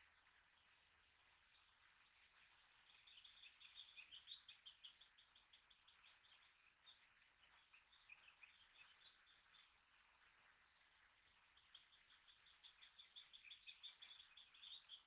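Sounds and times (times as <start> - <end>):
bird song: 0.0 - 15.0
bird chirps: 1.5 - 10.6, 11.4 - 15.0.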